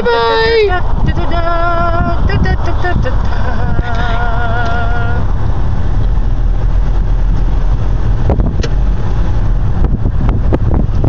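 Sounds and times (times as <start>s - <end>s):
car interior rumble: 0.0s - 11.0s
wind buffeting microphone: 0.0s - 11.0s.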